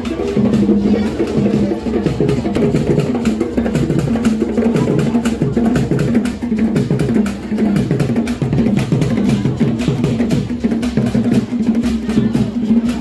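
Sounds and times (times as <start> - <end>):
drums and percussion beat: 0.0 - 13.0.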